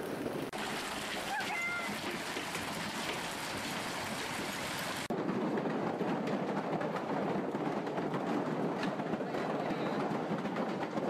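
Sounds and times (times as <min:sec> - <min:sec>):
hail pelting pavement and cars: 0:00.0 - 0:11.0.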